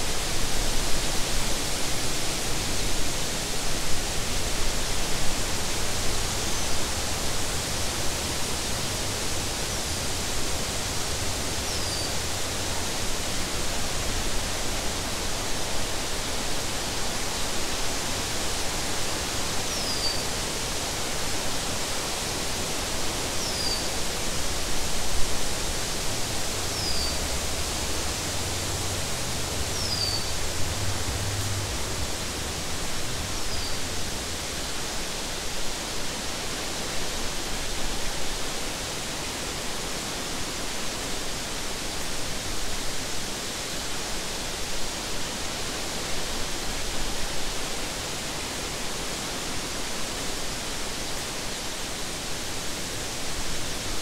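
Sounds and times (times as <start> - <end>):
wind through grass and trees: 0.0 - 54.0.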